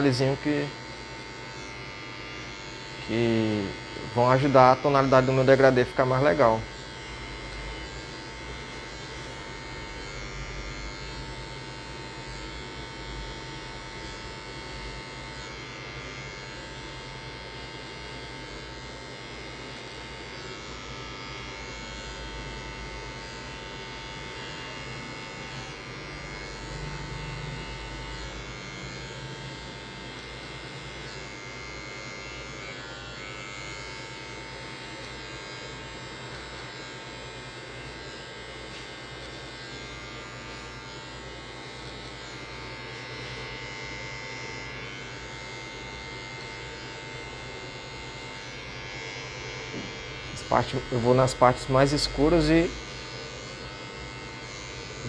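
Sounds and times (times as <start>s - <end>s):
electric hair clipper buzzing: 0.0s - 55.0s.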